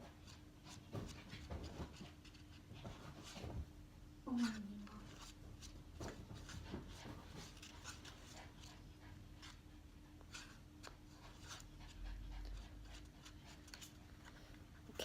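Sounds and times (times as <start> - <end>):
soft scrapes and rustles: 0.1 - 3.7, 4.3 - 15.0.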